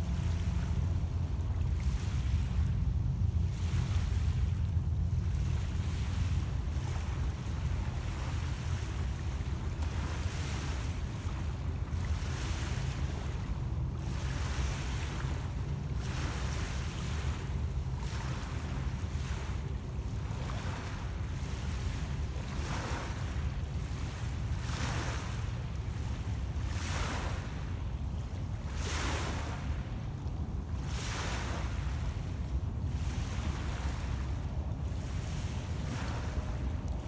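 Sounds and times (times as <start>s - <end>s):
waves lapping on pebble shore: 0.0s - 37.0s
wind rumble on microphone: 0.0s - 37.0s.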